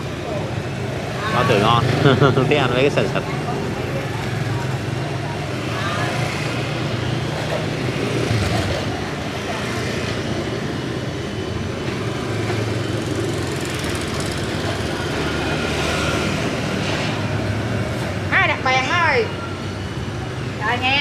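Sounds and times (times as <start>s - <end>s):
motorbike engines passing: 0.0s - 21.0s
street traffic: 0.0s - 21.0s.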